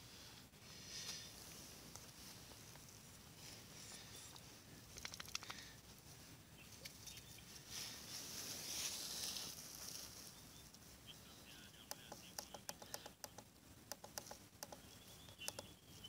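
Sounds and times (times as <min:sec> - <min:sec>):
soft high hiss: 0:00.0 - 0:16.0.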